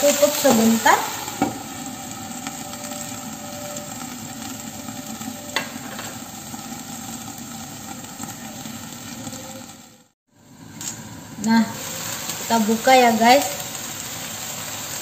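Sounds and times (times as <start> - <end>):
leaves sizzling in a wok: 0.0 - 15.0.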